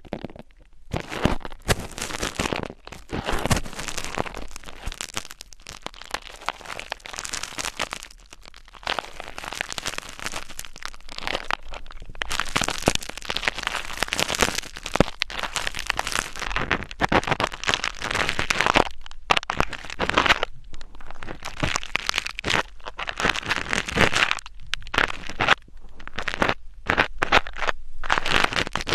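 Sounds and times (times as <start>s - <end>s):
scratching crackling and crinkling: 0.0s - 28.9s.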